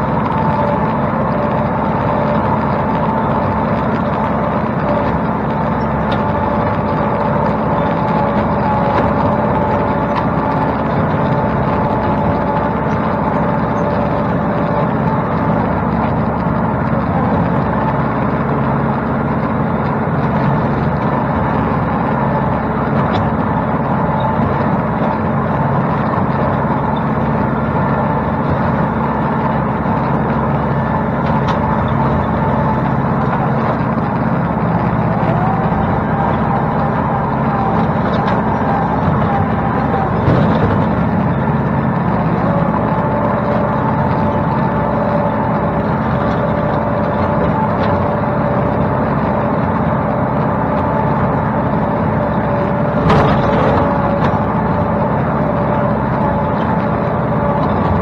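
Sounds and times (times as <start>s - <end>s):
rotary cutter mowing brush: 0.0s - 58.0s
tractor engine under load: 0.0s - 58.0s.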